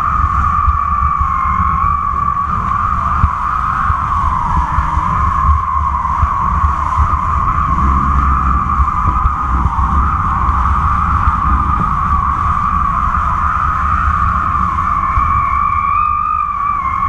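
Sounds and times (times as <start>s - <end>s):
high whistling hum: 0.0s - 17.0s
wind buffeting camera: 0.0s - 17.0s.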